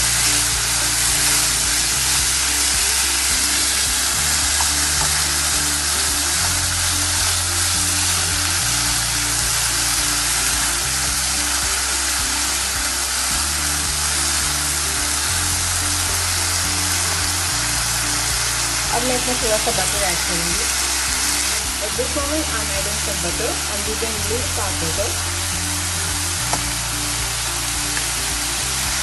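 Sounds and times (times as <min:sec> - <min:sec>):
chicken sizzling in a pan: 0:00.0 - 0:29.0
slow low background music: 0:00.0 - 0:29.0.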